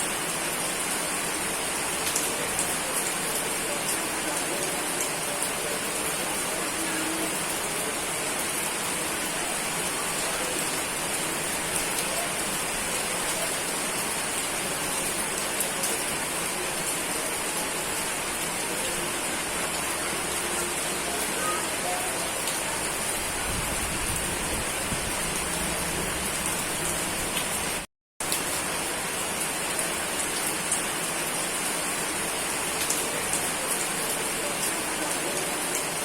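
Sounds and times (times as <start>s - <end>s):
steady rain hiss: 0.0s - 36.0s.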